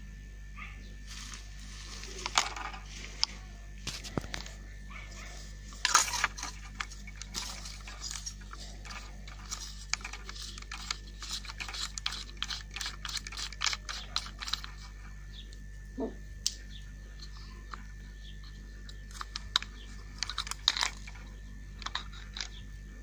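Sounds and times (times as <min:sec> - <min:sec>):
fishing reel parts clicking and rattling: 0:01.1 - 0:15.6, 0:17.2 - 0:22.7.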